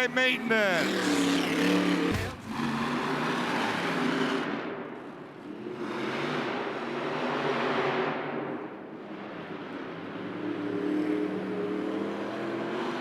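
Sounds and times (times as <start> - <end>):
monster truck engines revving: 0.0 - 13.0.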